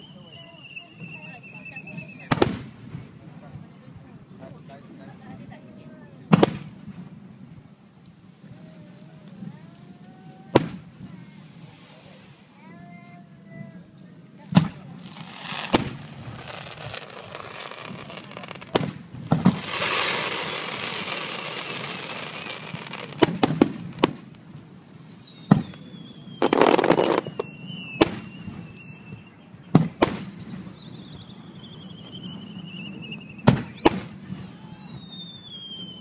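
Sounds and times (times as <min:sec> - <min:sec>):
firework crackling hiss: 0:06.2 - 0:36.0.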